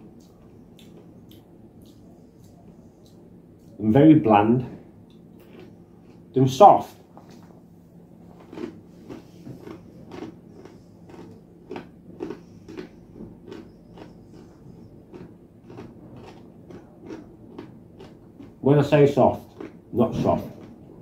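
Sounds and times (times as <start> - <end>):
man chewing crunchy food: 0.0 - 3.8, 5.0 - 21.0.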